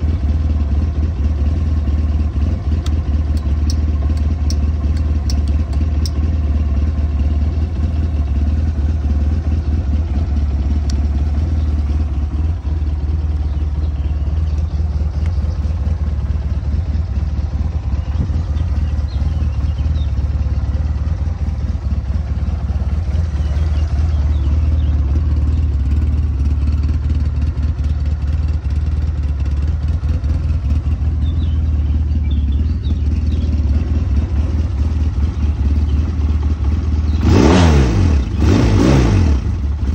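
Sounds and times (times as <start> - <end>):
quad bike engine idling: 0.0 - 39.9.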